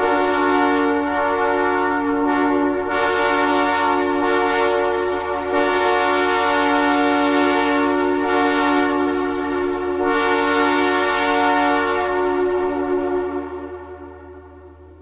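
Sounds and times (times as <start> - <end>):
locomotive air horn chord blasts: 0.0 - 15.0.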